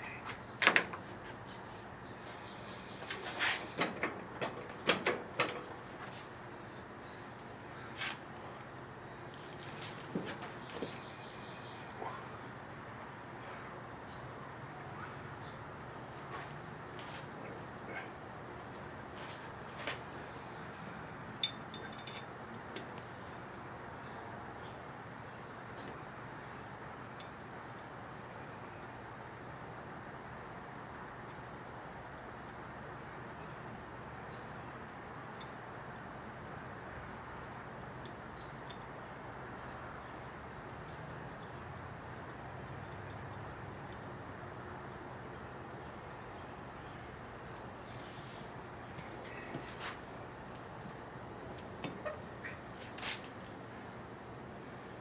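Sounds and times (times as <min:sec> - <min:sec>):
small birds chirping: 0:00.0 - 0:03.9, 0:04.6 - 0:27.0, 0:31.2 - 0:36.0, 0:36.7 - 0:54.2.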